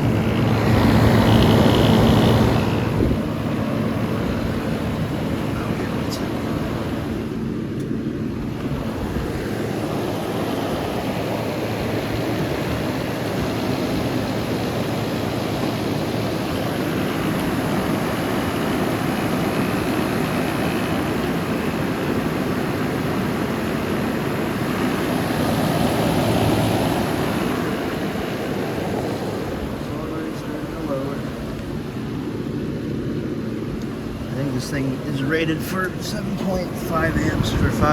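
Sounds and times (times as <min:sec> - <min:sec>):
window air conditioner running: 0:00.0 - 0:37.9.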